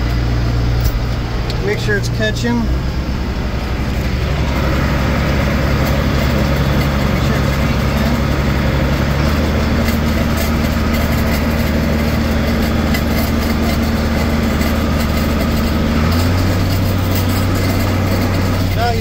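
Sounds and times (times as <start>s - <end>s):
round baler running: 0.0s - 19.0s
tractor diesel engine running: 0.0s - 19.0s.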